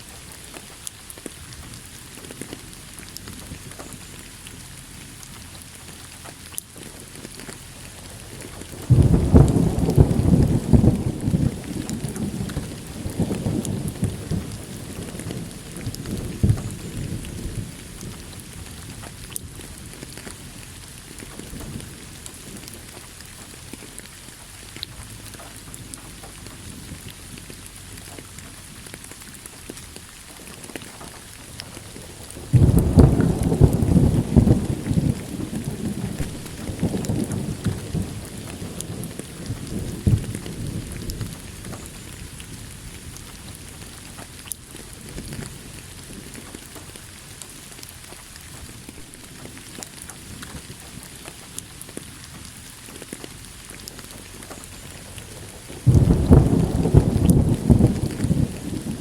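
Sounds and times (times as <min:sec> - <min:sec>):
thunder crack and rumble: 0:00.0 - 0:47.2, 0:47.8 - 0:59.0
steady rain falling: 0:00.0 - 0:59.0.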